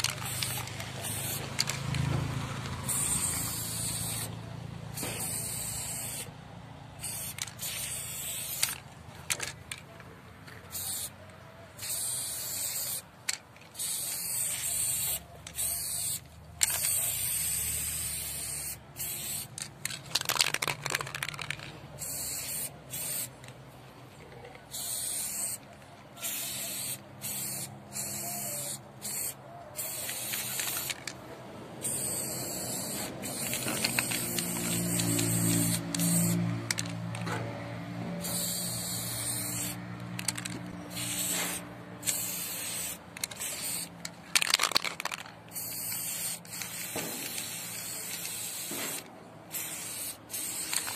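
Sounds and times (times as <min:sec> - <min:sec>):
spray paint can hissing: 0:00.0 - 0:06.4, 0:07.0 - 0:09.9, 0:10.5 - 0:11.2, 0:11.8 - 0:23.6, 0:24.7 - 0:31.2, 0:31.8 - 0:37.4, 0:38.2 - 0:50.9.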